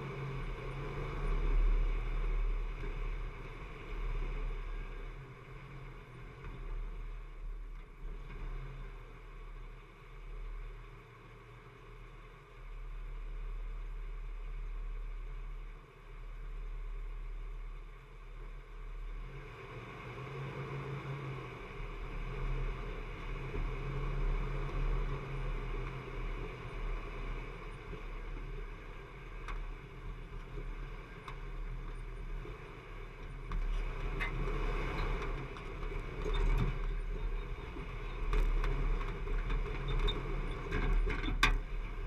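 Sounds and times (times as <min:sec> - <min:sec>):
engine running at low revs: 0:00.0 - 0:42.0.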